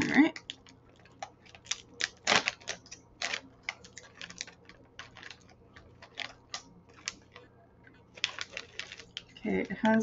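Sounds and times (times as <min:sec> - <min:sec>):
plastic bag crinkling and tearing: 0:00.0 - 0:10.0.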